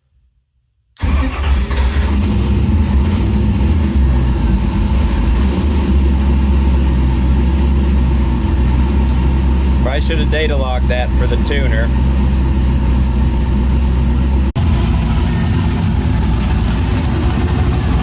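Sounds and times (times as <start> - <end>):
race car engine rumbling: 1.0 - 18.0.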